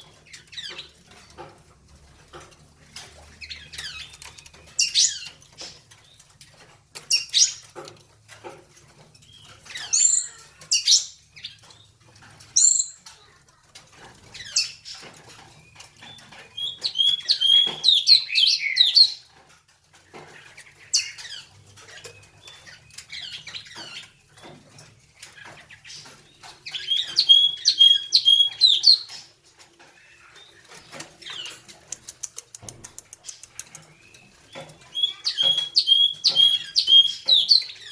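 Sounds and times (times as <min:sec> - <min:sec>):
bird song phrases: 0:00.0 - 0:37.9
songbirds calling: 0:00.0 - 0:37.9.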